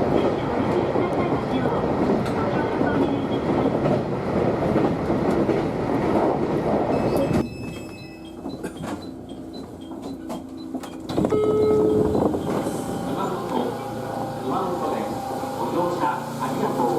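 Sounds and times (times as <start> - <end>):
train rumbling with wheel clatter: 0.0 - 16.9.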